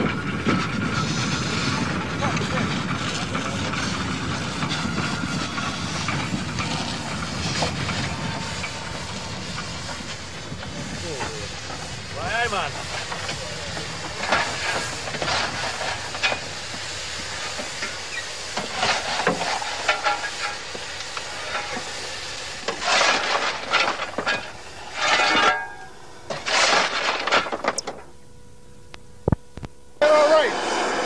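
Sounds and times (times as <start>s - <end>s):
steam locomotive hissing: 0.0s - 27.8s, 30.0s - 31.0s.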